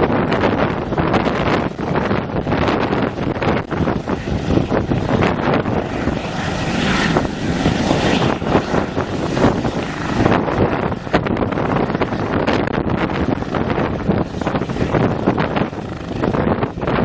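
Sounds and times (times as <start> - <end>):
helicopter rotor and turbine noise: 0.0 - 17.0.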